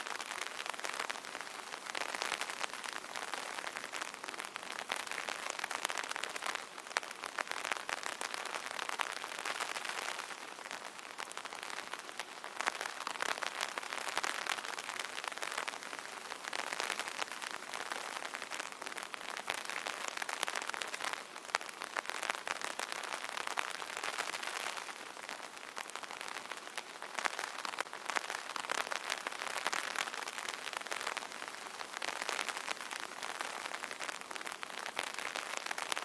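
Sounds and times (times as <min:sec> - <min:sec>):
rain on an umbrella: 0:00.0 - 0:36.0.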